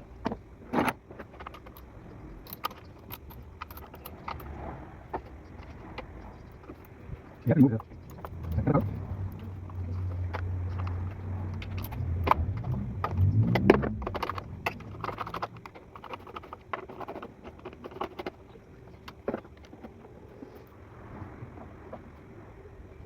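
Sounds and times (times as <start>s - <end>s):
low hum: 0.0s - 23.0s
metal tools clinking: 0.7s - 4.5s, 5.1s - 20.7s.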